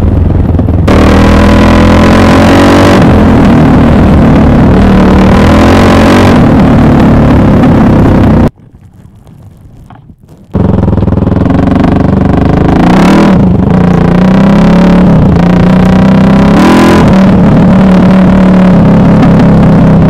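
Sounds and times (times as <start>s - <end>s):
motorcycle engine revving: 0.0s - 8.5s, 9.9s - 20.0s.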